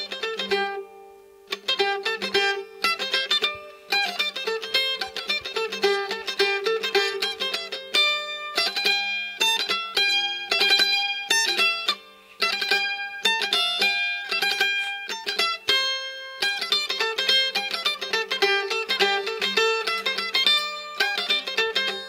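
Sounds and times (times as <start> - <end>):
plucked string melody: 0.0 - 22.0.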